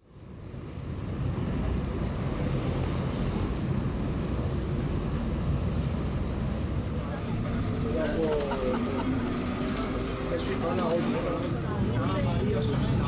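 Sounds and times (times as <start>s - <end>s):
boat engine drone: 0.0s - 13.0s
rushing water: 0.3s - 13.0s.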